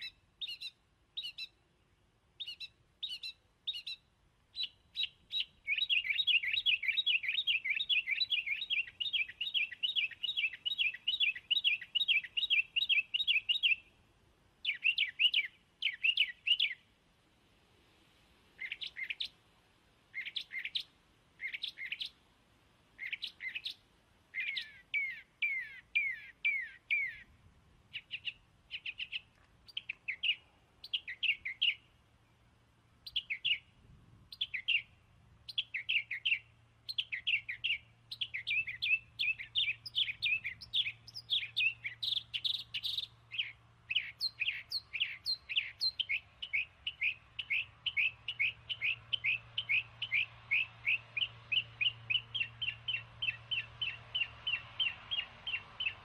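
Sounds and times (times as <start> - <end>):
small birds chirping: 0.0 - 17.0, 17.8 - 56.0.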